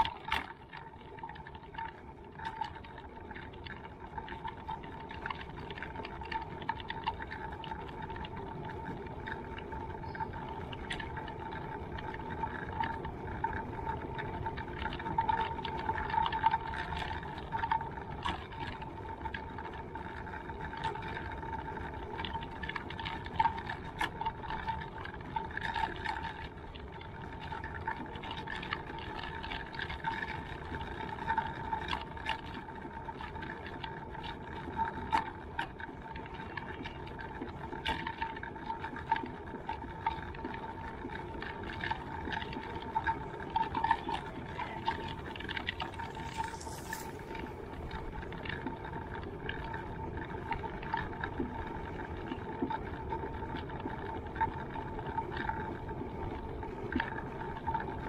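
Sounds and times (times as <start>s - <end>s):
wheels rolling on paved path: 0.0s - 58.0s.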